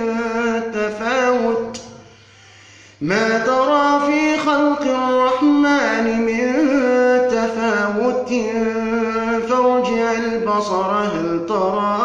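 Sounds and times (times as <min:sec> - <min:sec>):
man chanting melodically: 0:00.0 - 0:02.0, 0:03.0 - 0:12.0.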